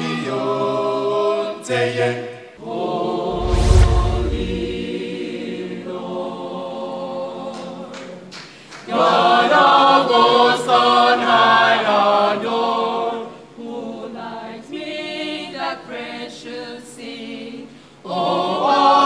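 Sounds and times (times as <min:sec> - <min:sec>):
a cappella choir singing: 0:00.0 - 0:19.0.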